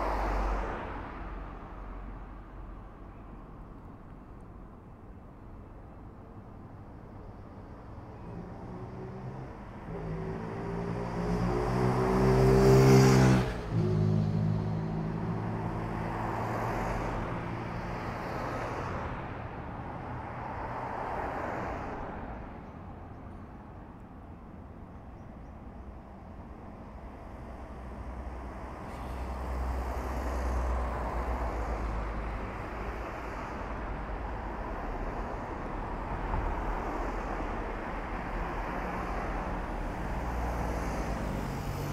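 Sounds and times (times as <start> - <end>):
cars passing: 0.0 - 3.0, 7.8 - 24.7, 25.6 - 41.9
low traffic hum: 0.0 - 41.9.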